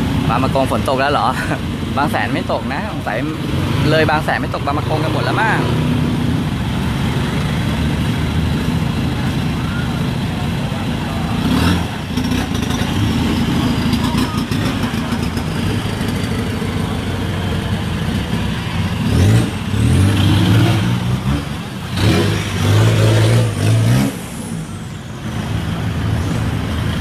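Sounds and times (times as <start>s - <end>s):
busy street traffic: 0.0s - 27.0s
vehicles passing loudly: 0.0s - 27.0s.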